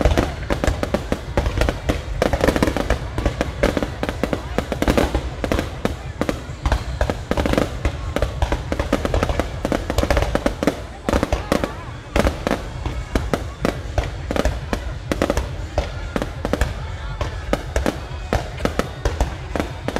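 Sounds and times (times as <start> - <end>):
fireworks bangs and crackles: 0.0 - 19.9.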